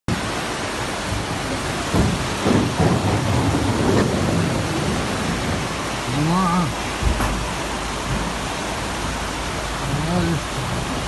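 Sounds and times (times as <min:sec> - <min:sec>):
heavy rain and floodwater hiss: 0:00.1 - 0:11.0.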